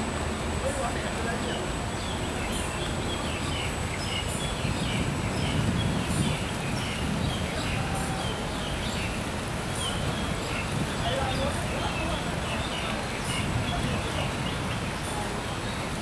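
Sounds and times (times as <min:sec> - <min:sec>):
small birds chirping: 0:00.6 - 0:16.0.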